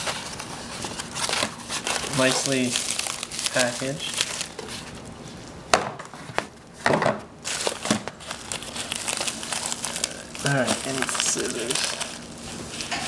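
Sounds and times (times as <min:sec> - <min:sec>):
packaging crinkling and rustling: 0:00.0 - 0:05.5, 0:07.4 - 0:13.0.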